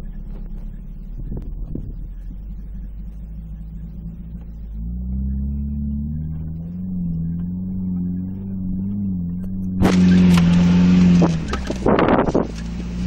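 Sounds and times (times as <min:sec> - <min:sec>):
suv engine from inside cabin: 0:00.0 - 0:13.0.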